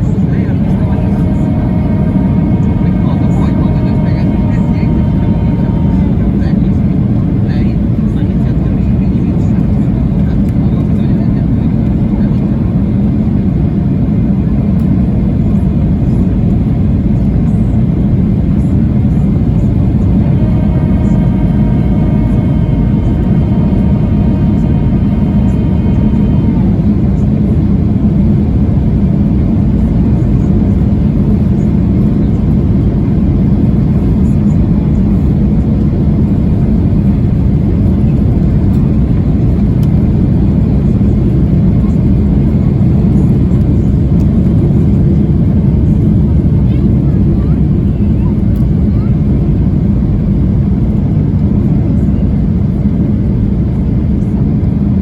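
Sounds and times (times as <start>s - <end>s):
aircraft engines and airflow rumble: 0.0s - 55.0s
steady pitched whine: 0.0s - 55.0s.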